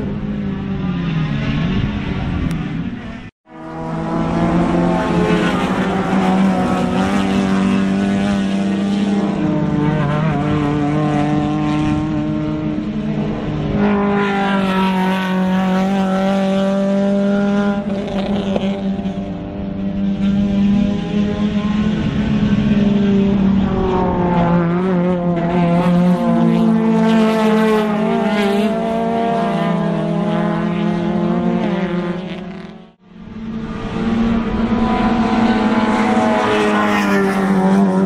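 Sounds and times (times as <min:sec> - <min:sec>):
racing car engines at high revs: 0:00.0 - 0:38.0.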